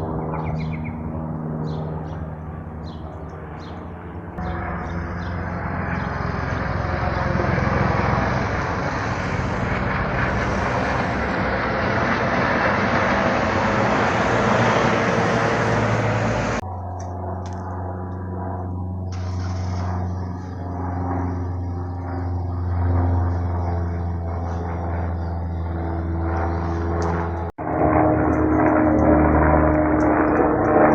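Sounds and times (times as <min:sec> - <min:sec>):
small airplane engine passing overhead: 0:00.0 - 0:30.9.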